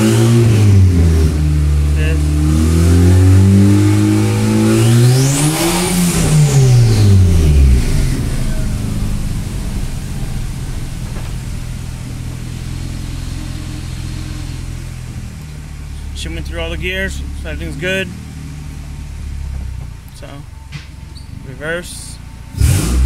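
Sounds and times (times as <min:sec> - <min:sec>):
car engine revving: 0:00.0 - 0:23.0
high whine: 0:00.8 - 0:22.6.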